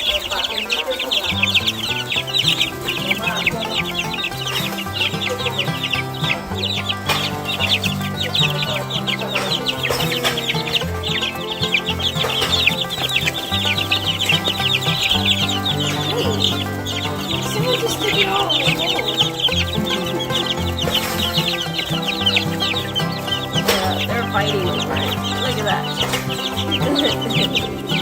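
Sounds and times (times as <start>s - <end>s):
background music: 0.0s - 28.0s
chicks peeping: 0.0s - 28.0s.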